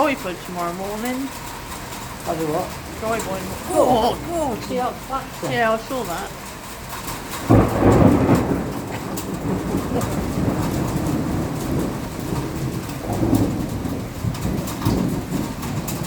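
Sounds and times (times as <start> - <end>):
heavy rain pouring: 0.0 - 16.0
thunder rumbling: 0.0 - 16.0.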